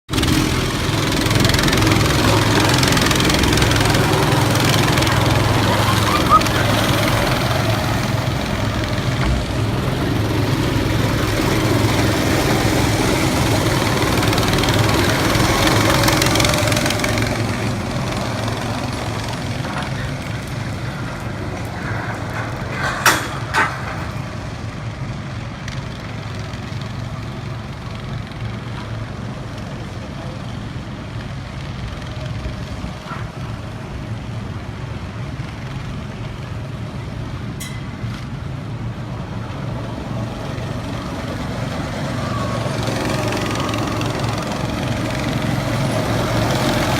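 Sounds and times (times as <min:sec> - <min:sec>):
go-kart engine running: 0:00.1 - 0:46.9.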